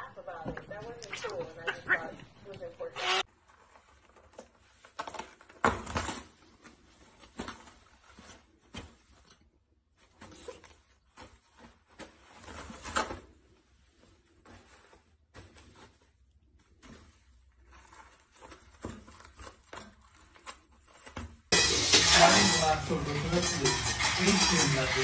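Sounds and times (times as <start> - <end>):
toilet paper rustling and scraping: 3.1 - 25.0.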